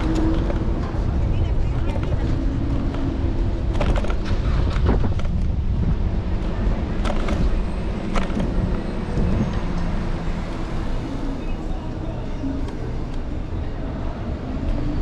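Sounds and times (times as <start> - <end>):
wind and road noise rumble: 0.0 - 15.0.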